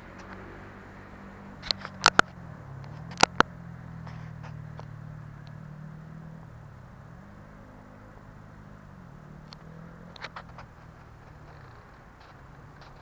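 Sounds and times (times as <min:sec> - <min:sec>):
distant engine humming: 0:00.0 - 0:13.0.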